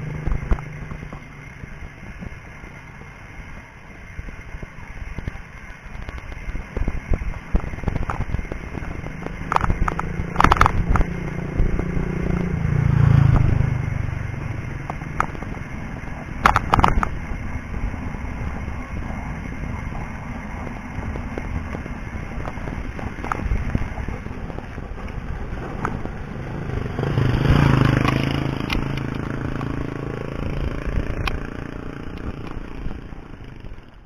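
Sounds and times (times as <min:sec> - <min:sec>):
motor vehicle passing: 0:00.0 - 0:03.2, 0:07.7 - 0:34.0
bike rattling and clacking: 0:00.0 - 0:12.6, 0:14.3 - 0:34.0
bicycle riding on rough road: 0:00.0 - 0:34.0.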